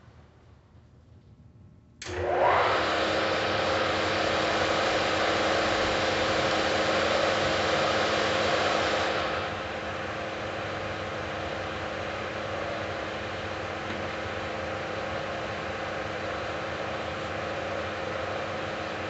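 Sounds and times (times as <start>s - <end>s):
lathe motor running: 2.0s - 19.0s.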